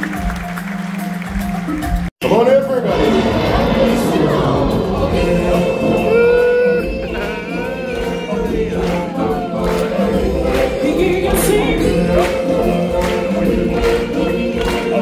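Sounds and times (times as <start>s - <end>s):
live band playing: 0.0s - 15.0s
choir singing: 2.7s - 15.0s.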